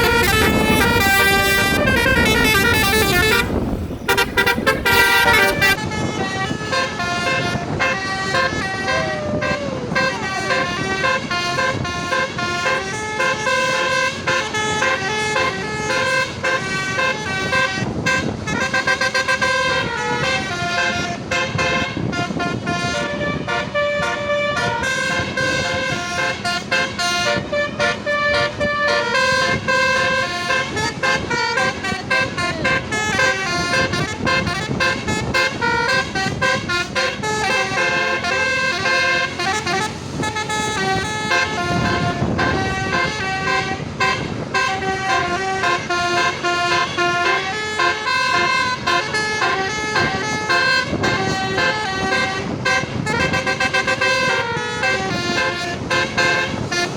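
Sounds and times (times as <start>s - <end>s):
bus air horns playing melody: 0.0s - 56.9s.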